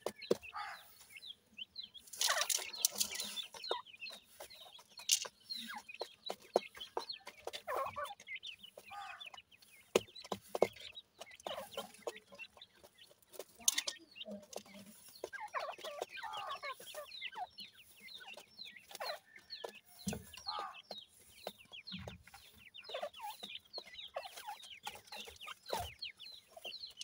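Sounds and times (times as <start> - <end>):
chicks cheeping: 0.0 - 27.0.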